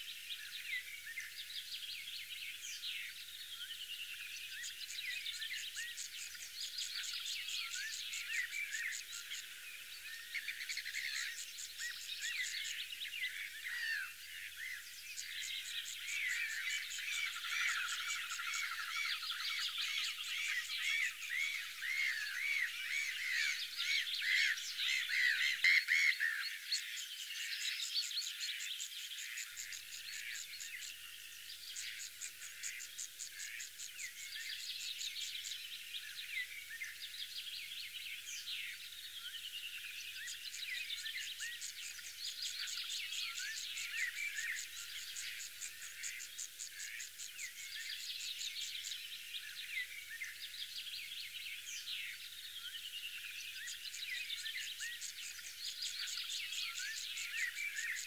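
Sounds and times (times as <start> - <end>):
birds singing and calling: 0.0 - 58.0.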